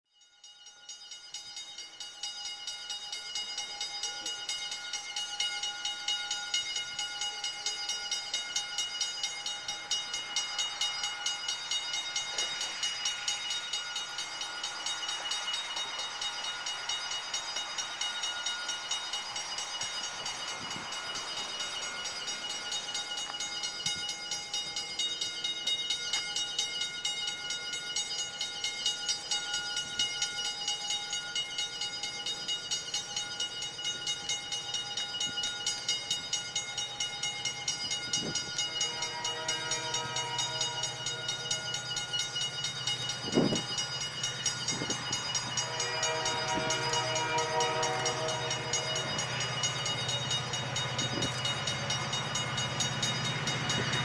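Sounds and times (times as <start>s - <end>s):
freight train running: 0.4s - 54.0s
pulsing ringing: 0.4s - 54.0s.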